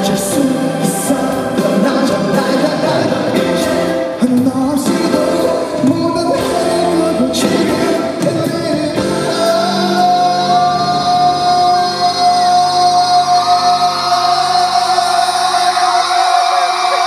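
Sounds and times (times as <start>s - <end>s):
man singing into microphone: 0.0s - 17.0s
musical accompaniment: 0.0s - 17.0s.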